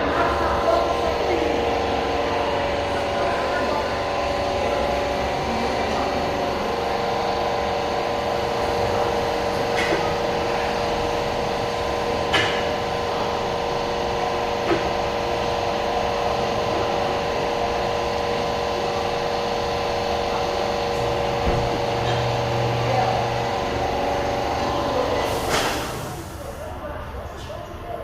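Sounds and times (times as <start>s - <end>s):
machine hum: 0.0s - 27.2s.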